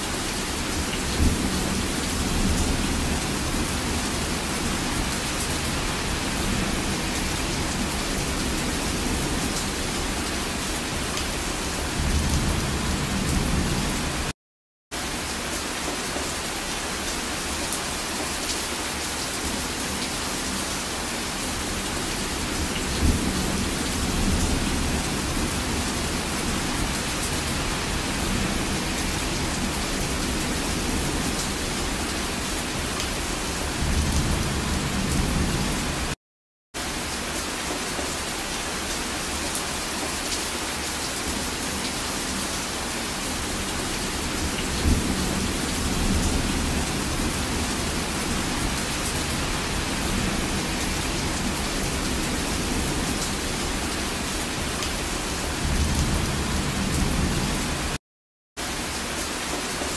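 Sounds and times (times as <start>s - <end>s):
heavy rain falling: 0.0s - 14.4s, 15.0s - 36.2s, 36.8s - 58.0s, 58.6s - 59.9s.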